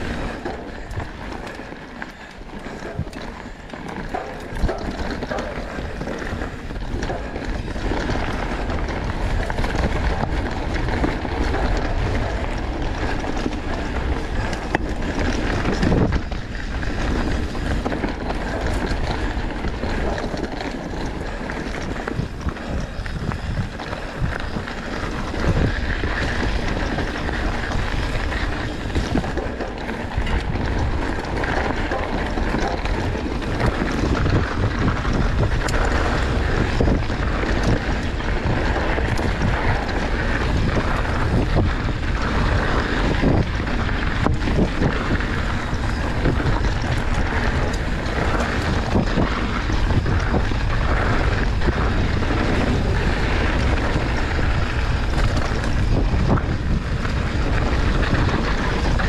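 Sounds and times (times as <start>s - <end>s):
bike clacks and rattles: 0.0s - 59.0s
wind on microphone: 4.0s - 59.0s.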